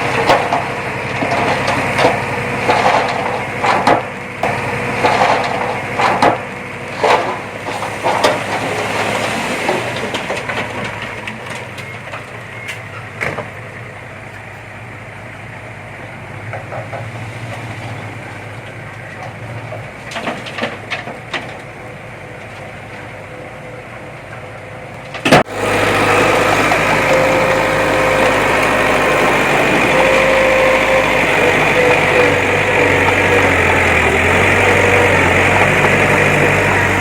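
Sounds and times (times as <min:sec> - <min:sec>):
engine whine: 0:00.0 - 0:19.3, 0:25.1 - 0:37.0
earthmoving machinery engines: 0:00.0 - 0:37.0.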